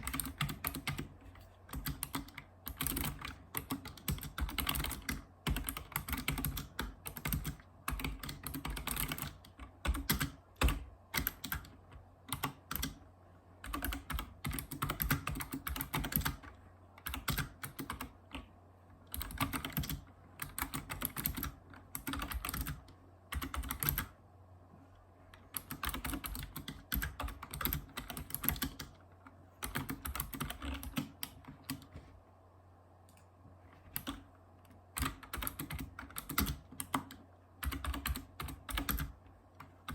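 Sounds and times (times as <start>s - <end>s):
keyboard typing: 0.0s - 13.0s, 13.6s - 24.2s, 25.3s - 32.0s, 33.1s - 39.9s.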